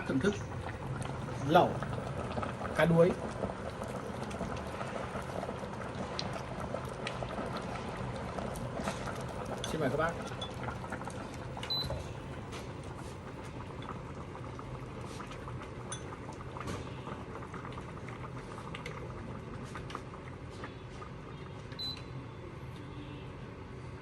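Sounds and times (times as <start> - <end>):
broth boiling with bubbling: 0.0 - 24.0.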